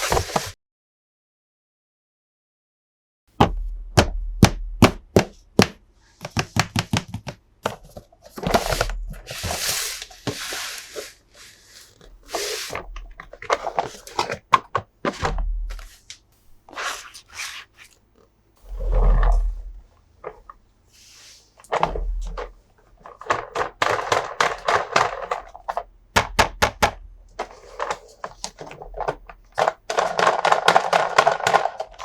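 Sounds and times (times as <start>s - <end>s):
plastic or cardboard rustling: 0.0s - 0.6s, 6.0s - 18.0s, 18.6s - 32.0s.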